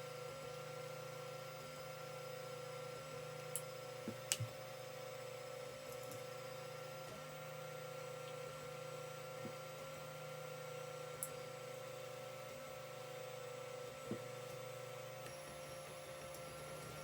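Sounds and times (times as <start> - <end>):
three-d printer hum and whine: 0.0 - 17.0.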